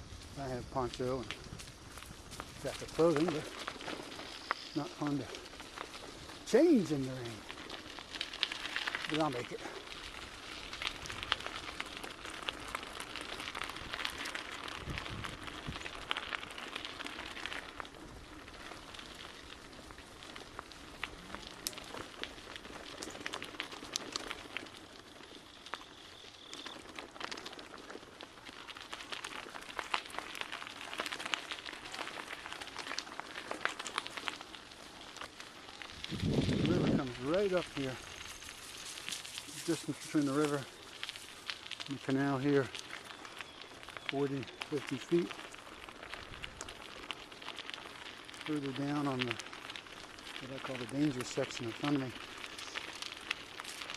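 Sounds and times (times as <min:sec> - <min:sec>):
bicycle rattling: 0:00.0 - 0:53.9
bicycle tyres on rough trail: 0:00.0 - 0:53.9.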